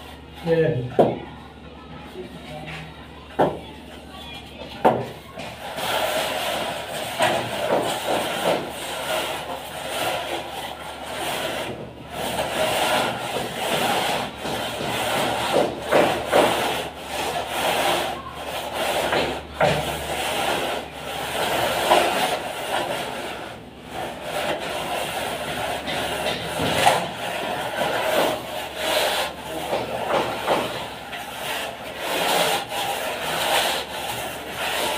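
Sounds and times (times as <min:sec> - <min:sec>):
straightedge scraping wet plaster: 0:05.5 - 0:34.9.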